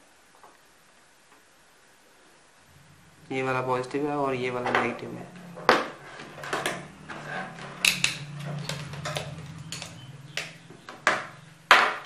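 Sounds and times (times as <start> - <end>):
steady low hum: 1.1 - 12.0.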